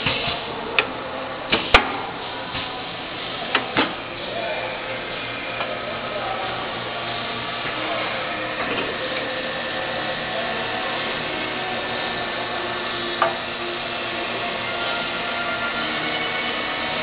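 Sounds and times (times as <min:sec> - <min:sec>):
machine spindle whirring: 0:00.0 - 0:17.0.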